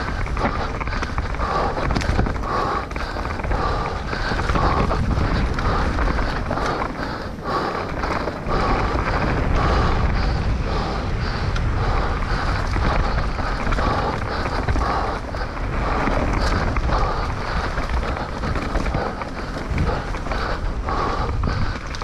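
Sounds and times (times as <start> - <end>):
bike tyres on trail: 0.0 - 22.0
wind rumble on microphone: 0.0 - 22.0.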